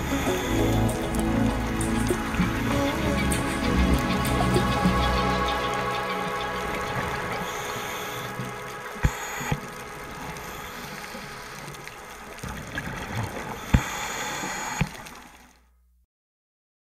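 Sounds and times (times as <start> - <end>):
underwater hum of held tones: 0.0 - 15.8.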